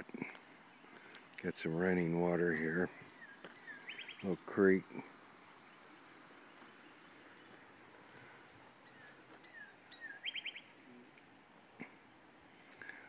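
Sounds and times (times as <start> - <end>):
small creek running: 0.0 - 13.0
songbird chirping: 0.0 - 13.0.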